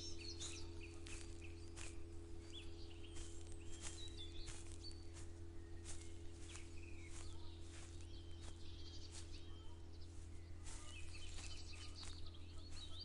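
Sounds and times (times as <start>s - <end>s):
constant low hum: 0.0s - 13.0s
footsteps walking: 0.0s - 13.0s
small birds chirping: 0.0s - 13.0s.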